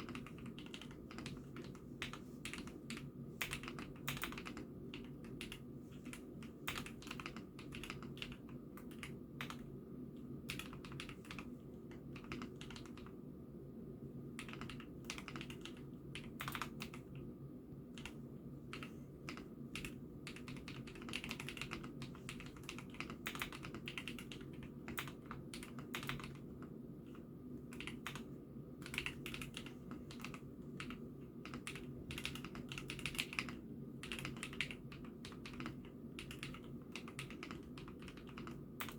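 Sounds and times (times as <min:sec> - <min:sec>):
mechanical keyboard typing: 0:00.0 - 0:09.7, 0:10.5 - 0:13.1, 0:14.4 - 0:17.2, 0:18.0 - 0:26.7, 0:27.7 - 0:38.9
steady low hum: 0:00.0 - 0:38.9.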